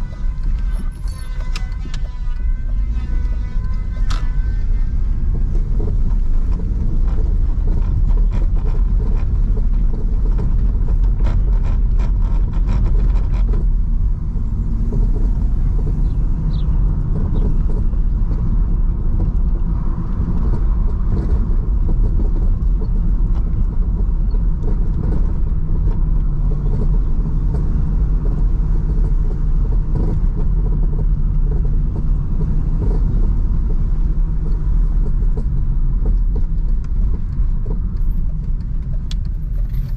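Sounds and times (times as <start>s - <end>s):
car engine running: 0.0s - 39.9s
tyre and road rumble: 0.0s - 39.9s.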